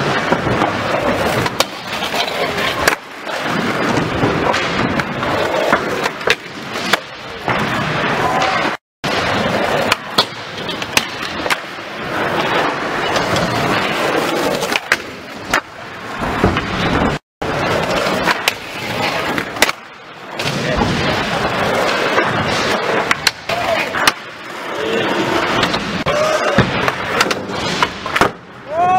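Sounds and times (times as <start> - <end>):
skateboard clacking: 0.0 - 7.8, 9.4 - 28.5
skateboard wheels rolling: 0.0 - 28.9.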